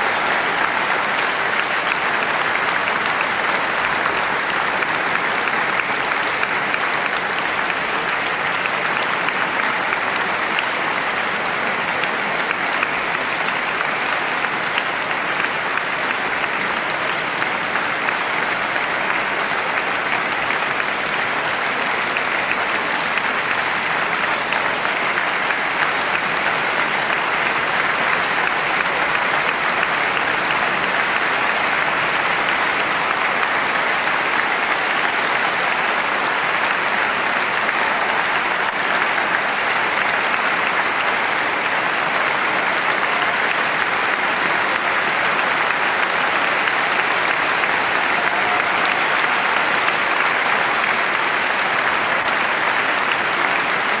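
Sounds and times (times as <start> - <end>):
audience applauding: 0.0 - 54.0.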